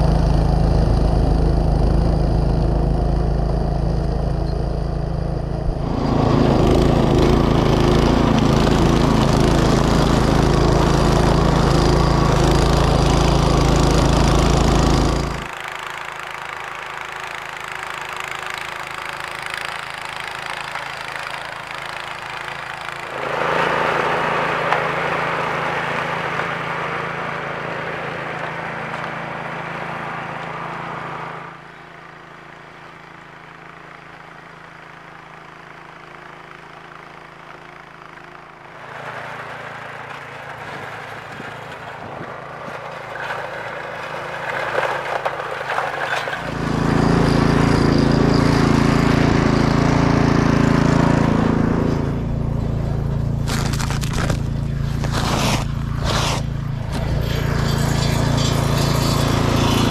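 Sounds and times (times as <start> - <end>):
snowblower engine running: 0.0 - 59.9
auger churning snow: 5.3 - 59.9.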